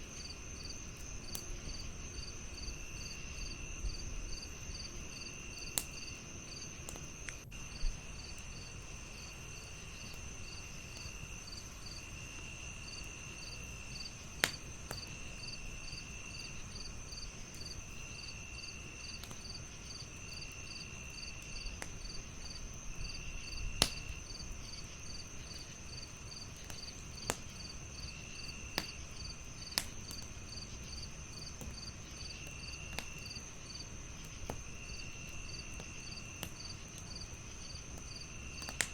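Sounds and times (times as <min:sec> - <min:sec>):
crickets chirping: 0:00.0 - 0:38.9
wood fire crackling and popping: 0:00.0 - 0:38.9.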